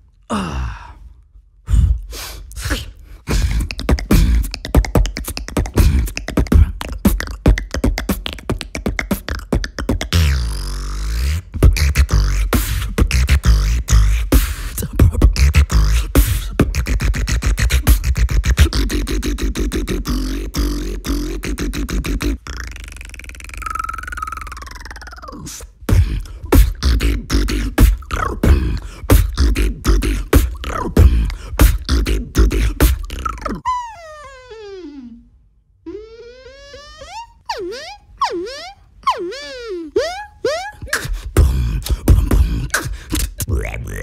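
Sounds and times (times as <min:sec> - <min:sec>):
deep vocal bass: 0:00.0 - 0:33.7, 0:40.0 - 0:44.0
beatboxing: 0:01.7 - 0:33.9, 0:35.9 - 0:44.0.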